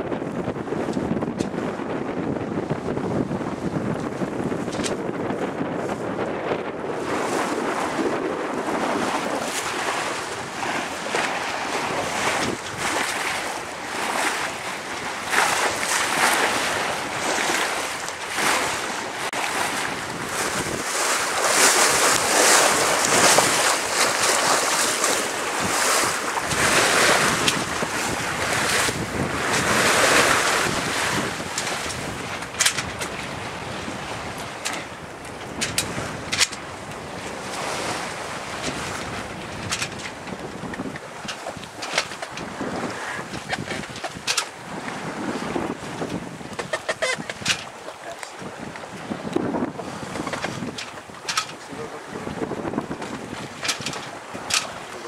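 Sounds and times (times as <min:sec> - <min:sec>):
sea water rushing along hull: 0:00.0 - 0:55.0
wind buffeting microphone: 0:00.0 - 0:55.0.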